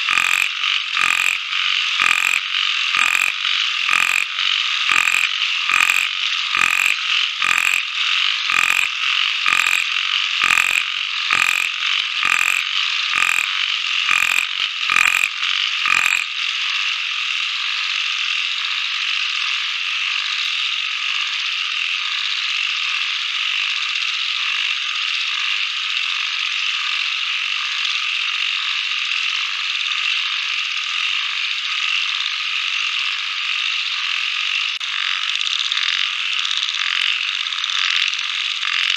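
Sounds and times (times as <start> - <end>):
frogs calling: 0.0 - 38.9.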